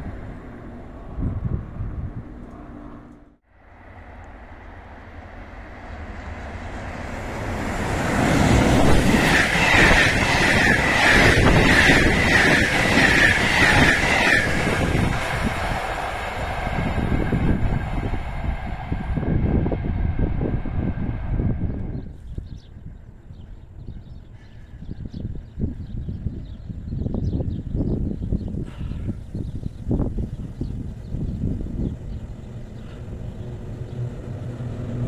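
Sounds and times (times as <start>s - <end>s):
passenger train passing: 0.0s - 23.8s, 29.2s - 35.0s.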